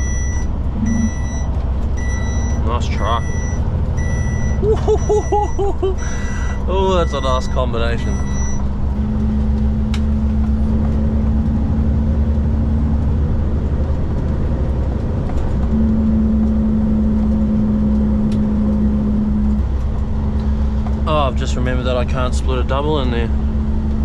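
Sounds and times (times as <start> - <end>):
diesel truck engine running: 0.0 - 24.0
road noise: 0.0 - 24.0.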